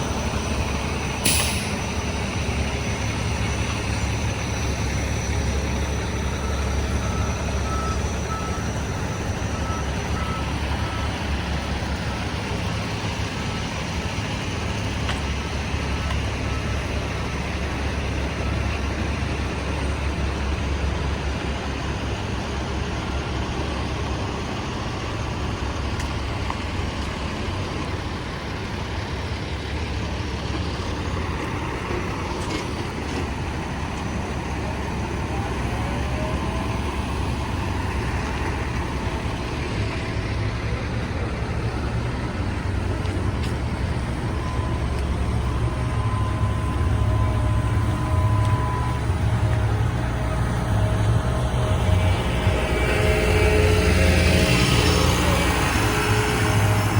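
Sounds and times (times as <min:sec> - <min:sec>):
diesel machinery engine rumble: 0:00.0 - 0:56.9.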